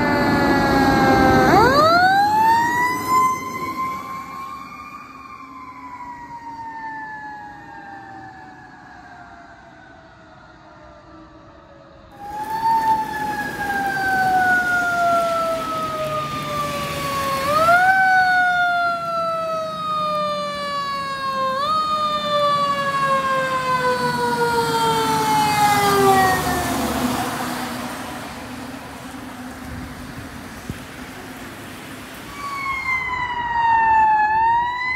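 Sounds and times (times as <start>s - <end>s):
mechanical siren wailing: 0.0s - 11.0s, 11.6s - 27.6s, 32.3s - 34.9s
road noise on wet road: 0.0s - 34.9s.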